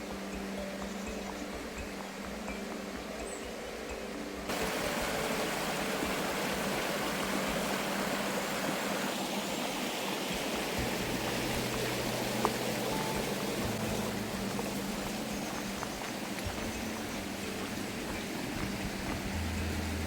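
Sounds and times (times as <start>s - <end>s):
spring water running: 0.0s - 20.0s.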